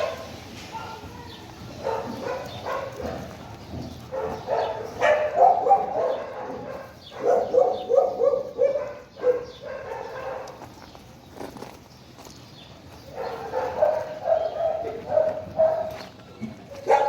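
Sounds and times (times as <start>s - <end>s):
dogs barking: 0.0s - 10.8s, 13.0s - 17.0s.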